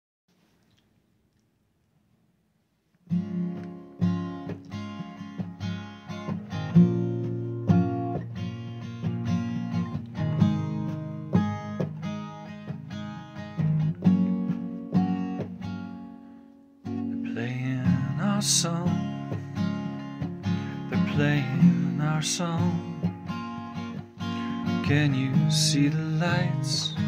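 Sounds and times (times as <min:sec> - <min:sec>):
acoustic guitar chords: 0:03.1 - 0:27.0.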